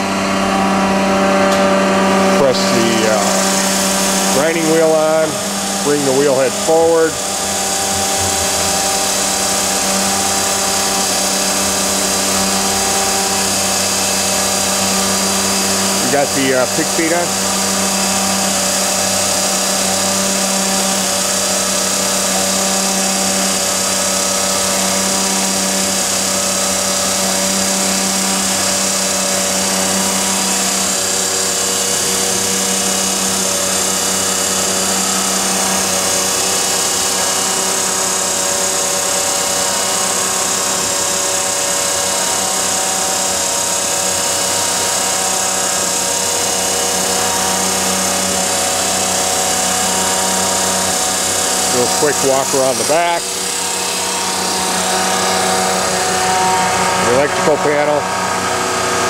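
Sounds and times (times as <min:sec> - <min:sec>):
grinding machine humming: 0:00.0 - 0:59.0.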